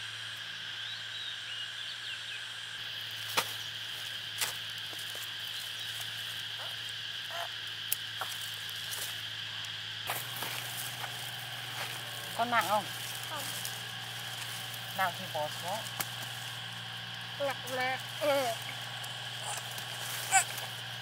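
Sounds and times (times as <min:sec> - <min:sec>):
insects or frogs chirping: 0:00.0 - 0:21.0.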